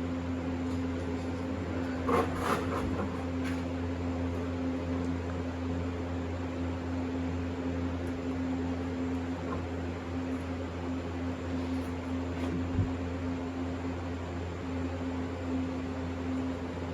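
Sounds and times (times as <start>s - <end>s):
low machine hum: 0.0s - 16.9s.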